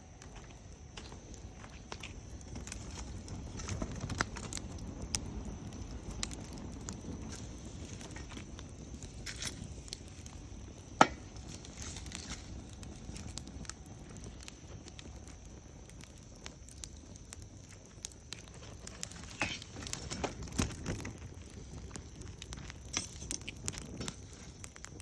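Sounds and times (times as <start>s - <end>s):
campfire crackling: 0.0s - 25.0s
fire popping: 0.0s - 25.0s.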